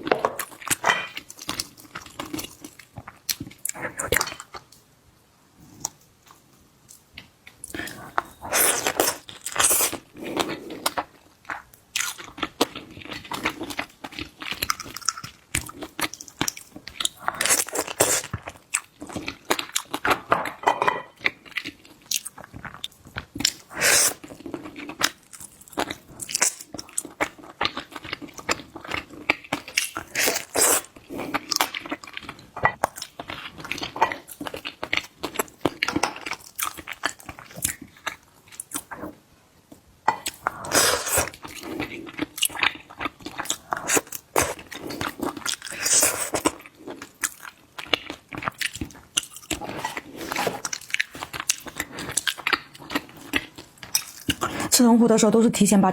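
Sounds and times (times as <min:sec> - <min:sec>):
chewing and crunching: 0:00.0 - 0:04.8, 0:05.6 - 0:54.8.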